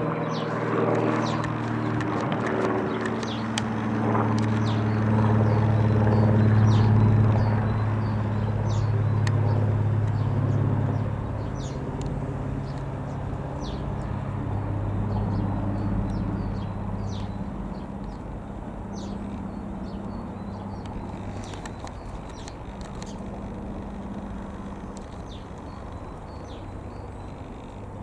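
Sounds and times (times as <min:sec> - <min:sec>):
propeller aeroplane droning overhead: 0:00.0 - 0:28.0
small birds chirping: 0:00.1 - 0:28.0.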